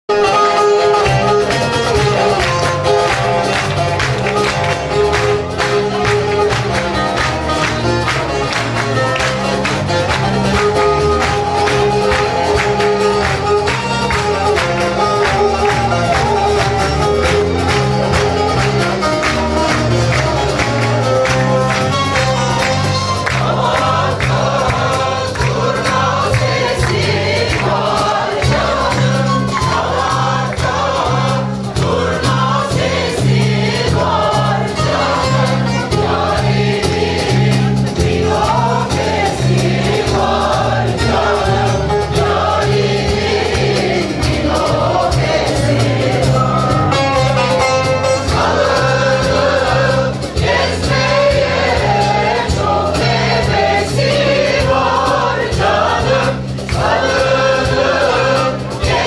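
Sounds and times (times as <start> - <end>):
instrumental accompaniment: 0.1 - 59.0
choir singing in unison: 2.1 - 59.0.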